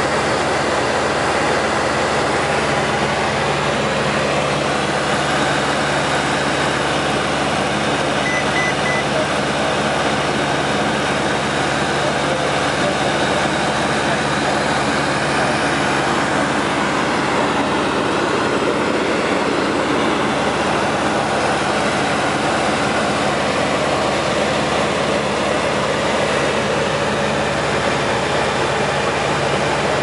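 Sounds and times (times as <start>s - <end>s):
light aircraft engine cruising: 0.0s - 30.0s.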